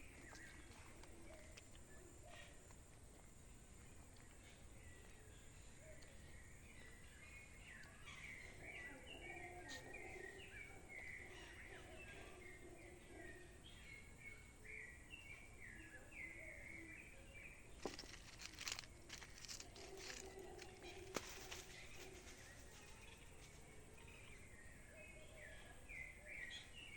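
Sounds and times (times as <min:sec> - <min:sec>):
faint bird chirps: 0:03.3 - 0:26.9.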